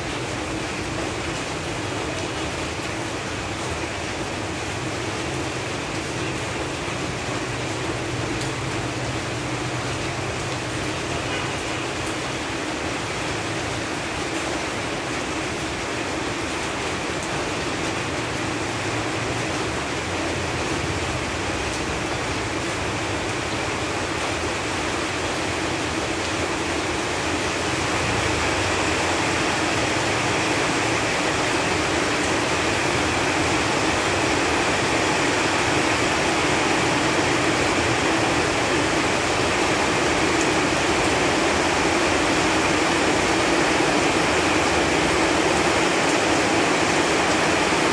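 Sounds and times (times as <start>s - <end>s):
rain falling on leaves: 0.0s - 47.9s.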